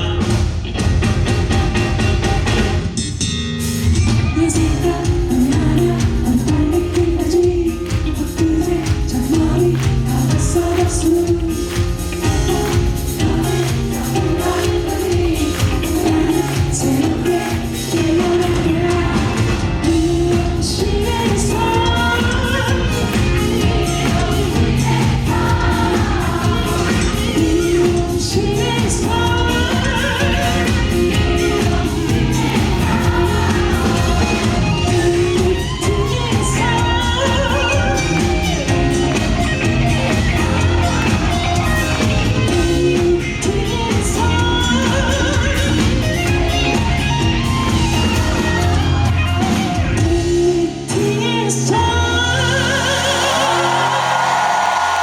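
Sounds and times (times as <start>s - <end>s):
pop band music with singing: 0.0s - 55.0s.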